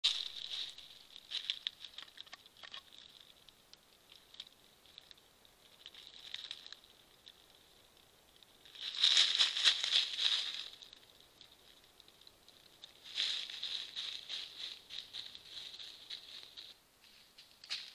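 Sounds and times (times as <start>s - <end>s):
animal rustling in dry leaves: 0.0s - 17.9s.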